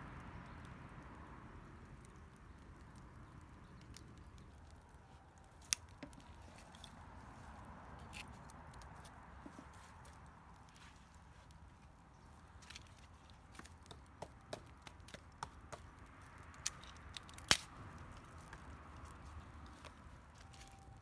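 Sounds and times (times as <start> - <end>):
dry bamboo cracking: 1.9 - 21.0.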